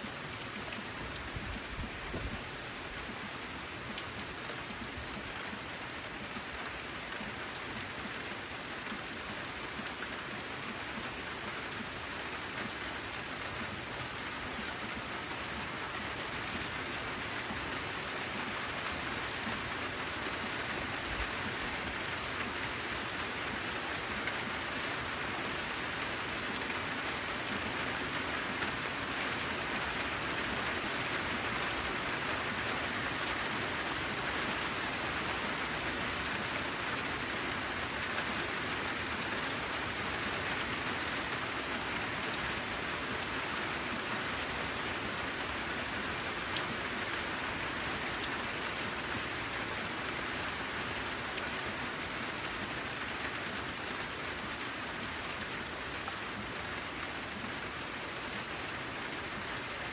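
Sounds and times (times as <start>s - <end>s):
rain drumming on a metal roof: 0.0s - 59.9s.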